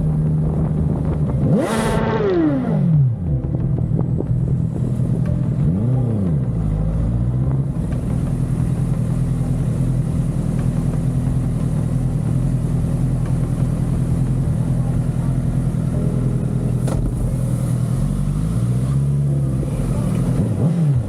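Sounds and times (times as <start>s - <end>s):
motorcycle engine: 0.0s - 21.0s.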